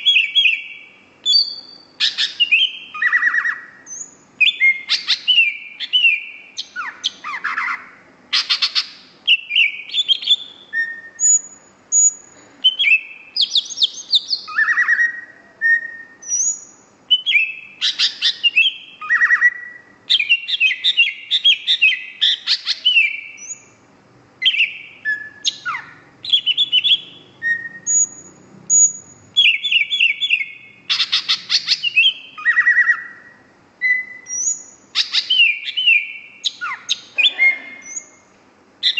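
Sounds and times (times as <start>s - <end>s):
bird singing whistled trills: 0.0s - 23.8s, 24.4s - 38.2s.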